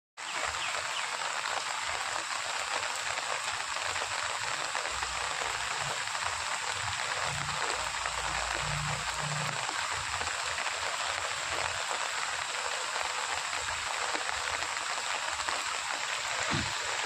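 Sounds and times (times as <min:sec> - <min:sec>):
heavy rain falling: 0:00.2 - 0:17.0.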